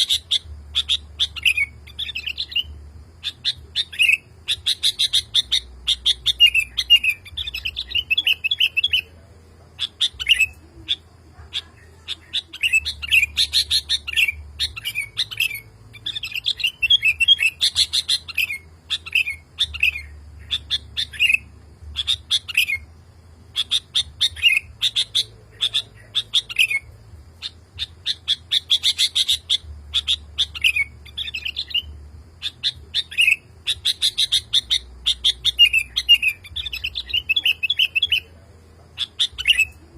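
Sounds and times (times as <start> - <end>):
bulbul singing chirpy notes: 0.0 - 39.9.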